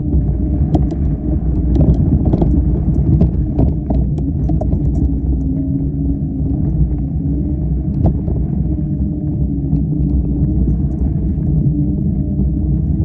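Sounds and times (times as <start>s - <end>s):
faint humming tone: 0.0s - 13.0s
vehicle rumbling on dirt trail: 0.0s - 13.0s.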